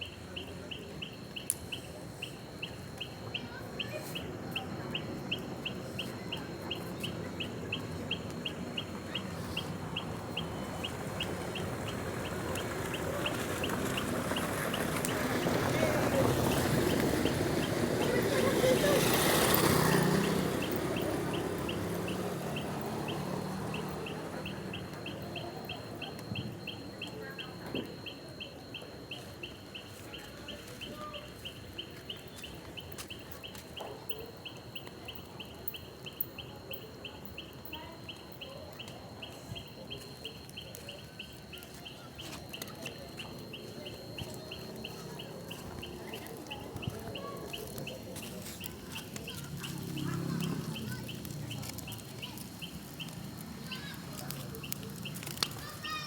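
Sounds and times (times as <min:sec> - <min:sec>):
fire crackling: 0:00.0 - 0:56.0
high chirping: 0:00.0 - 0:56.0.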